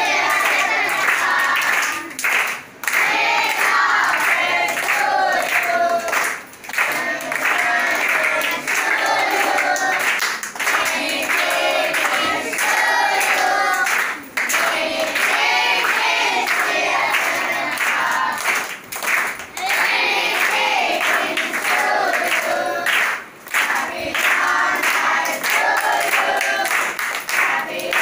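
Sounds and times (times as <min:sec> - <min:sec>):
children singing in unison: 0:00.0 - 0:02.2, 0:02.9 - 0:18.7, 0:19.5 - 0:28.0
hand clapping: 0:00.1 - 0:28.0.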